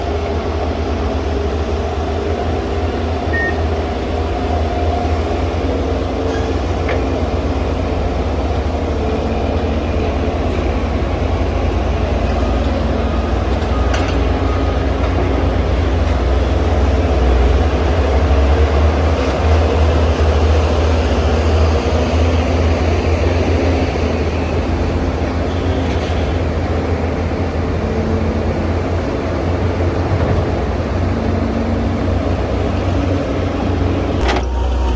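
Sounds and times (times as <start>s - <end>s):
excavator diesel engine rumbling: 0.0s - 34.9s.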